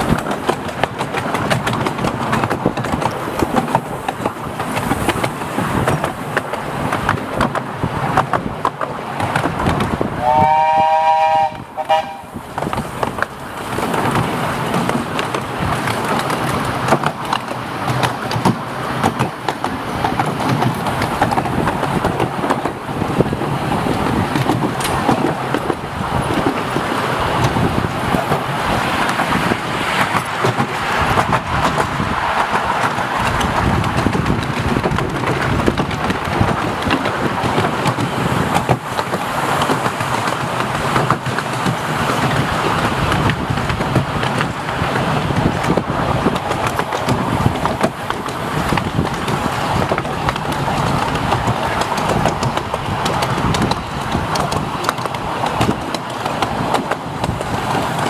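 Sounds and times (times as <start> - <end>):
train carriages rumbling on rails: 0.0 - 58.0.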